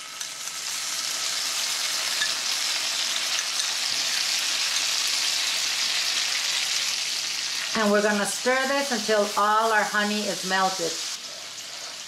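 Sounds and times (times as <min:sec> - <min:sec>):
butter sizzling in a skillet: 0:00.0 - 0:12.0.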